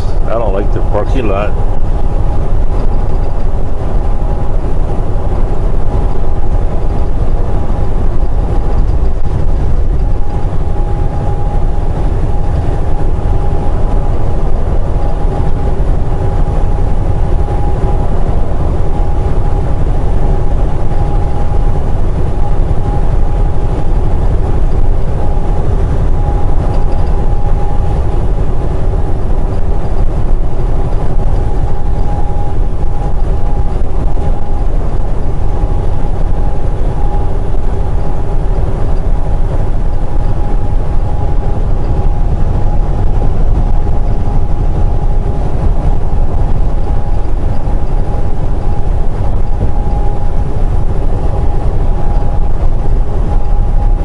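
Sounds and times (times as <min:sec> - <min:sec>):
road rumble: 0:00.0 - 0:54.0
thin steady whine: 0:00.0 - 0:54.0
truck engine drone: 0:00.0 - 0:54.0.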